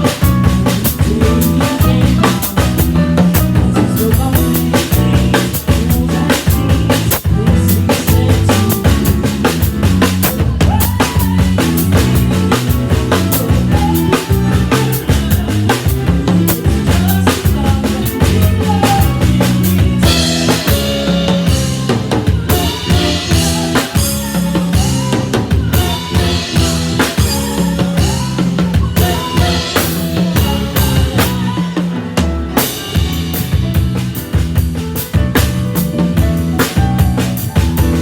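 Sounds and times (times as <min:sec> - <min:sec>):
bass line: 0:00.0 - 0:38.0
drum kit beat: 0:00.0 - 0:38.0
instrumental band playing: 0:00.0 - 0:38.0.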